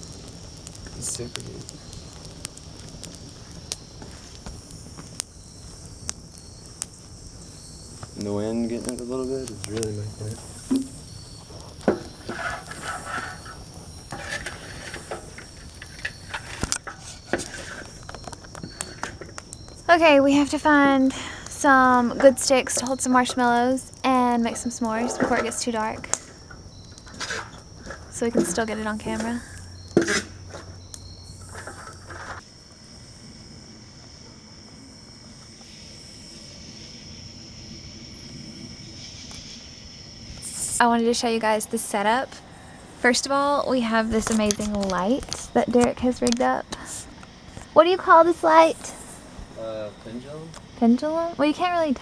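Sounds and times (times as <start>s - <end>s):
campfire crackling and popping: 0.0s - 52.0s
crickets chirping: 0.0s - 52.0s
wind: 0.0s - 52.0s.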